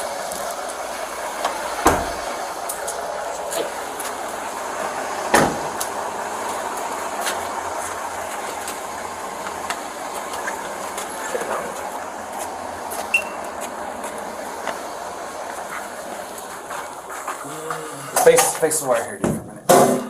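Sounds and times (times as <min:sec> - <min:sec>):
vehicle running noise: 0:00.0 - 0:20.0.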